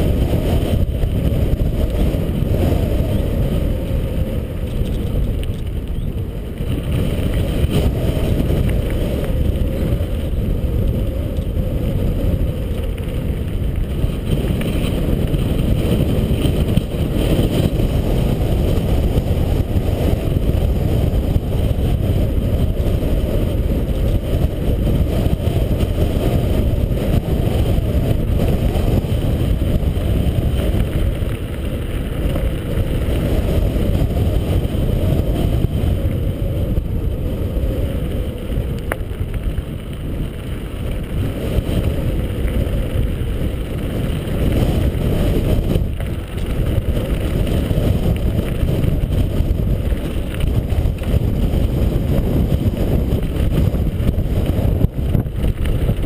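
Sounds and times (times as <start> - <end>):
bike tyres rolling on gravel: 0.0 - 56.0
wind buffeting microphone: 0.0 - 56.0.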